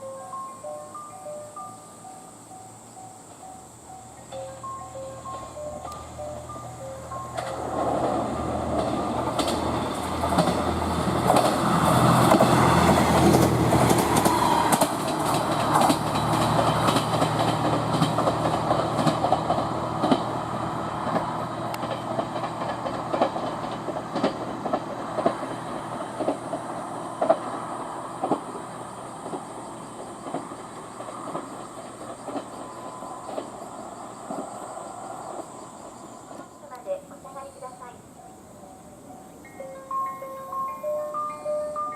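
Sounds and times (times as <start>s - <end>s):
train passing: 0.0s - 41.9s
wheels clicking over rail joints: 3.2s - 38.4s.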